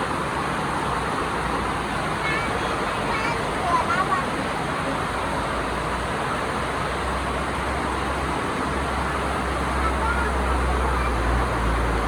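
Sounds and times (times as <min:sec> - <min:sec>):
water running off road: 0:00.0 - 0:12.0.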